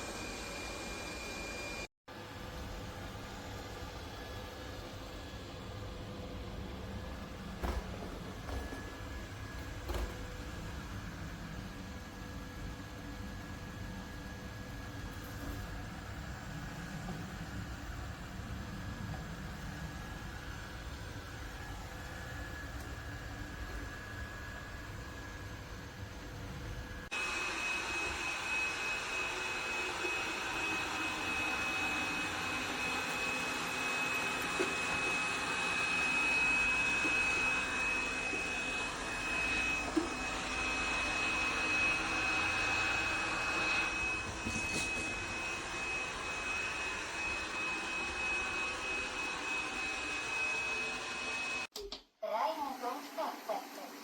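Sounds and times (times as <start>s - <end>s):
robot vacuum cleaner running: 0.0s - 51.7s, 52.4s - 54.0s.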